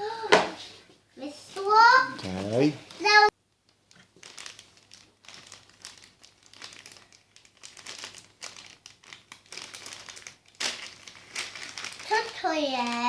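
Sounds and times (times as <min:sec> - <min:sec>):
packaging crinkling and rustling: 0:01.4 - 0:13.0.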